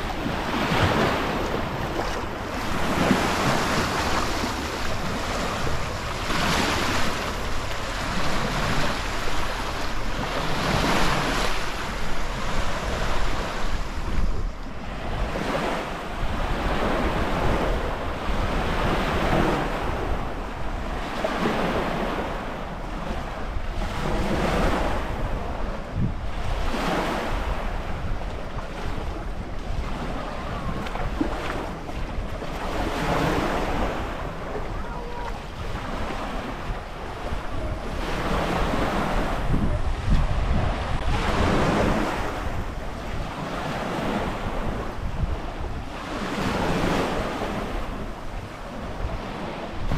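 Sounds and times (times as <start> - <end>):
sea waves breaking on shore: 0.0 - 49.9
wind rumbling on microphone: 0.0 - 49.9.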